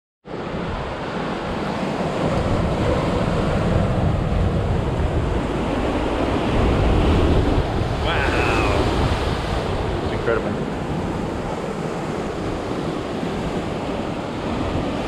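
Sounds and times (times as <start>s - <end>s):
wind buffeting microphone: 0.3s - 15.0s
ocean surf breaking on rocks: 0.4s - 15.0s.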